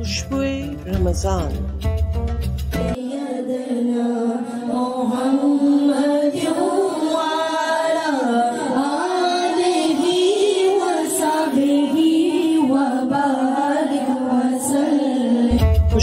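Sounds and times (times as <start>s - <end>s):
person singing a devotional chant: 3.0s - 16.0s.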